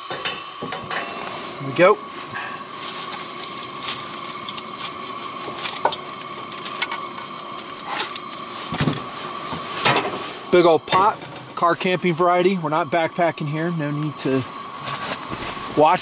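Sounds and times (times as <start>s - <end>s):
gas stove burner hissing: 0.0s - 16.0s.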